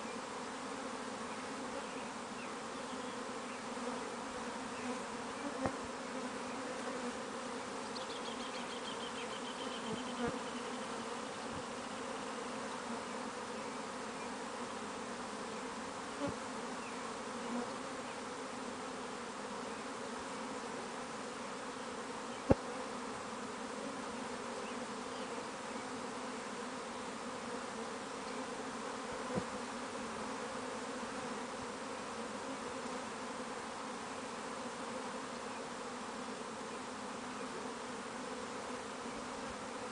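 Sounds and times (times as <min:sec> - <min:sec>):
bee swarm buzzing: 0:00.0 - 0:39.9.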